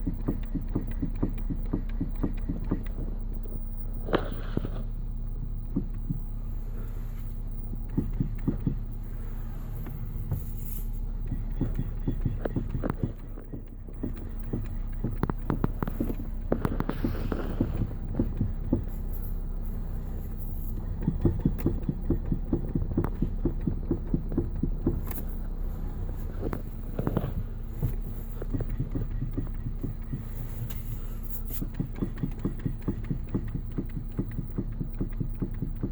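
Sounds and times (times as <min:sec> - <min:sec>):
low vehicle hum: 0:00.0 - 0:35.9
steering knocking: 0:00.0 - 0:35.9.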